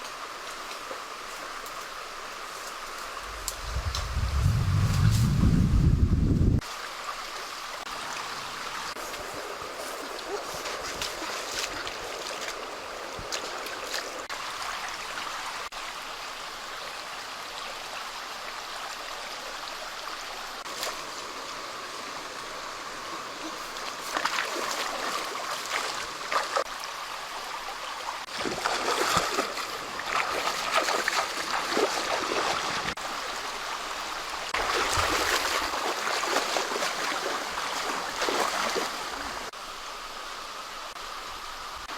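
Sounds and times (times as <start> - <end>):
running water: 0.0 - 41.9.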